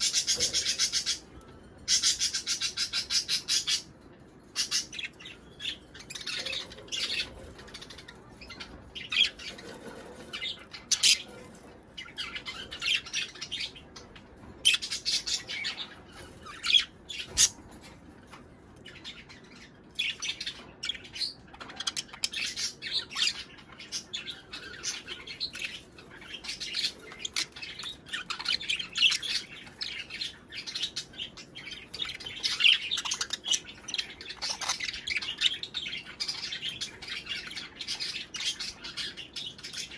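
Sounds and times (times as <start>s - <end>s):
budgerigars chattering: 0.0s - 1.3s, 1.9s - 3.9s, 4.5s - 17.6s, 18.9s - 39.9s.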